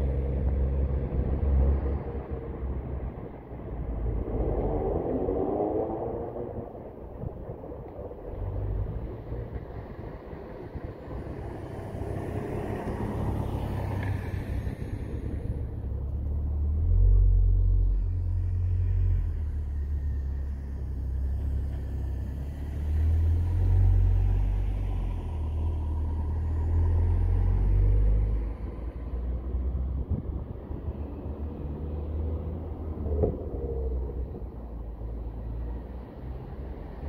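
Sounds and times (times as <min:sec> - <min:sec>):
car engine deep rumble: 0:00.0 - 0:37.0.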